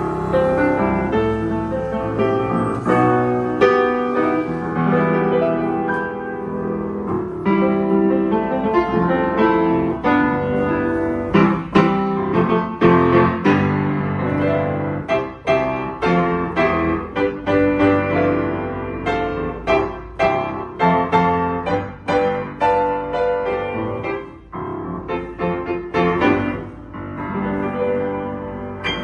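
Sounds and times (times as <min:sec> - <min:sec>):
upright piano playing: 0:00.0 - 0:29.0.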